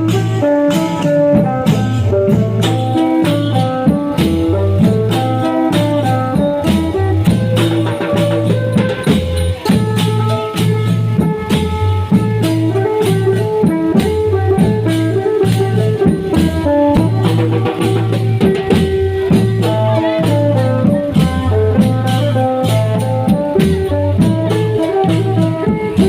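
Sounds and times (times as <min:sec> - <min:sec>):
long-drum band music: 0:00.0 - 0:26.0.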